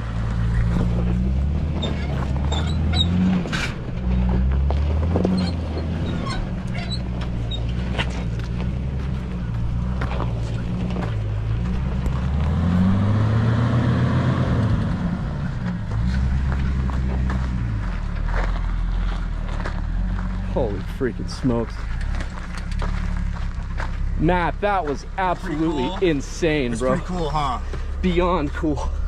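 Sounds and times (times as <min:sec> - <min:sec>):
car engine running under load: 0:00.0 - 0:29.0.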